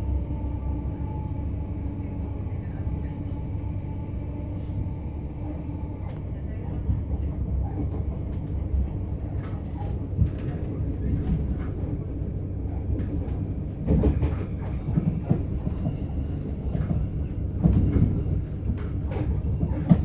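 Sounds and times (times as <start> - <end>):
train carriage rumble: 0.0 - 20.0.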